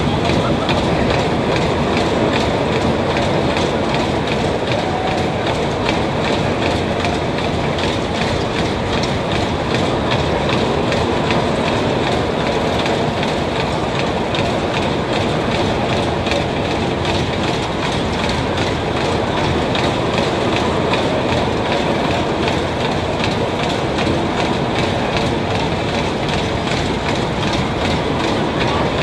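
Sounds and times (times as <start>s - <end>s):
ride cars rattling on rails: 0.0s - 29.0s.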